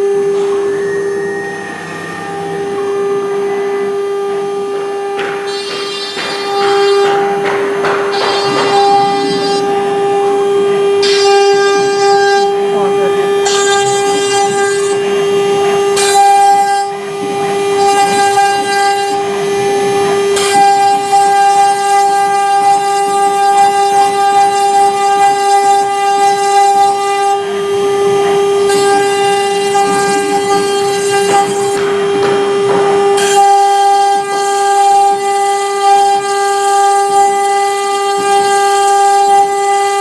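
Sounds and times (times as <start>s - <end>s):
router bit cutting wood: 0.0s - 40.0s
router spindle high whine: 0.0s - 40.0s.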